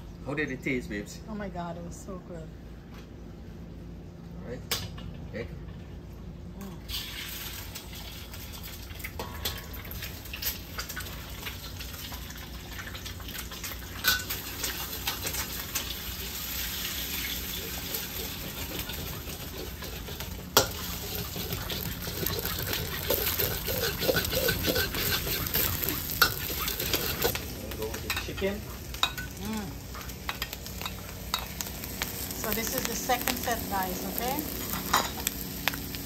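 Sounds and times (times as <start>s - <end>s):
food sizzling in a pan: 6.9s - 36.0s.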